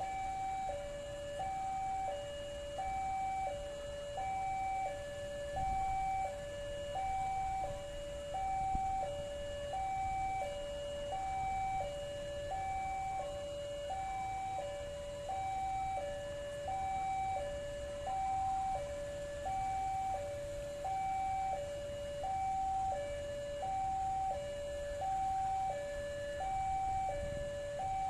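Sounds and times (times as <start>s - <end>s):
low rumble of traffic: 0.0s - 28.0s
two-tone level crossing alarm: 0.0s - 28.0s.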